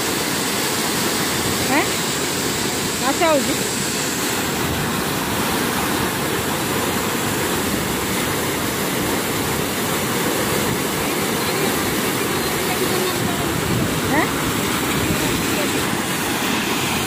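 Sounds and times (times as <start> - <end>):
water rushing through sluice: 0.0 - 17.0.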